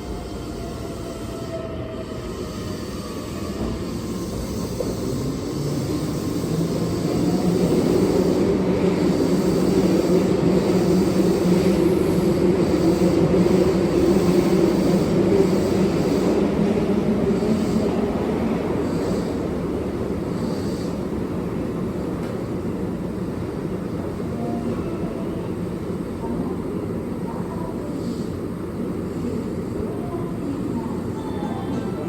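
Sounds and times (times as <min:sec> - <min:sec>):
electric train rumbling: 0:00.0 - 0:32.0.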